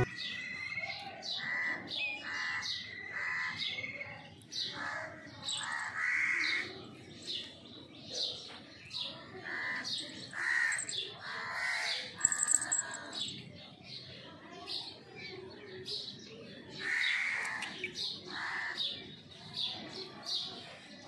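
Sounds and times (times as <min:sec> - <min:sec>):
birds chirping and calling: 0:00.0 - 0:14.2, 0:14.8 - 0:21.0.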